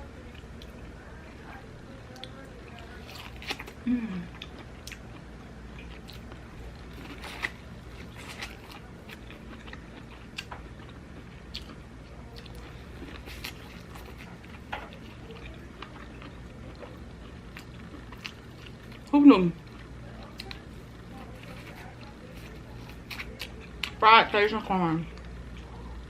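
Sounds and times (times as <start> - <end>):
person crunching and chewing: 2.2 - 24.0.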